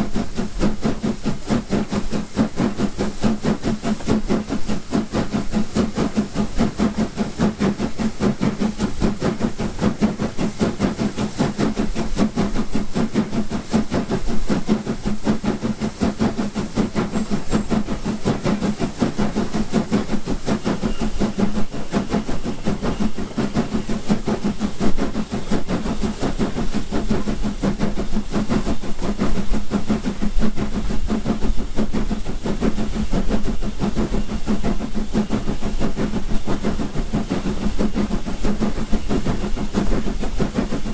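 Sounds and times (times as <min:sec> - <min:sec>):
steam hissing: 0:00.0 - 0:40.9
steam locomotive exhaust beating: 0:00.0 - 0:40.9.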